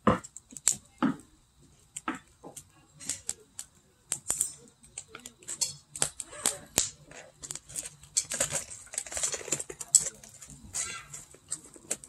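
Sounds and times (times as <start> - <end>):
firewood crackling: 0.0 - 12.0
sharp pops from fire: 0.0 - 12.0.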